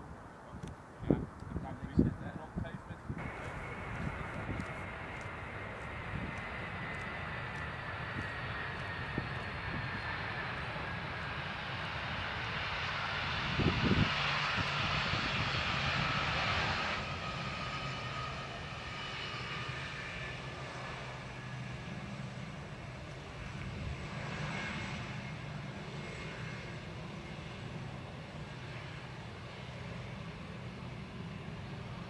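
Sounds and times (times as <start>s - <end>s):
jet engines whining: 3.2s - 32.0s.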